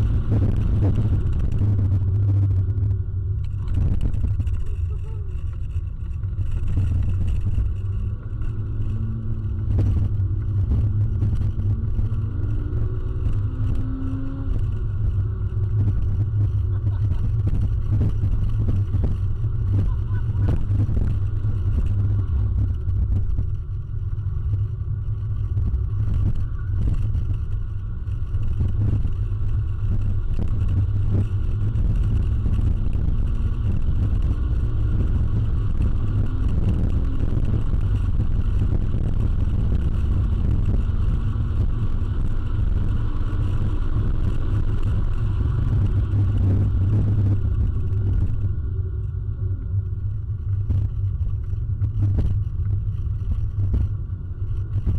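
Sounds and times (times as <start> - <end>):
car engine under load: 0.0 - 54.9
road noise: 0.0 - 54.9.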